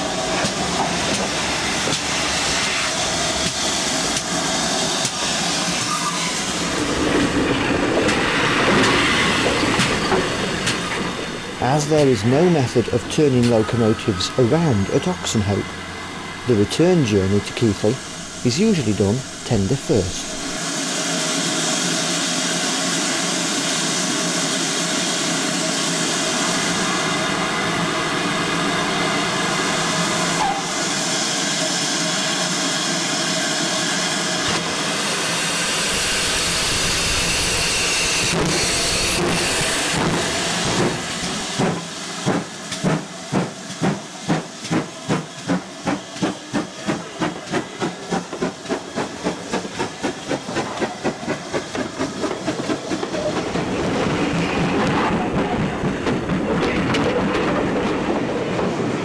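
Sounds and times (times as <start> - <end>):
steam hissing: 0.0 - 56.6
steam locomotive exhaust chuffs: 0.0 - 58.4.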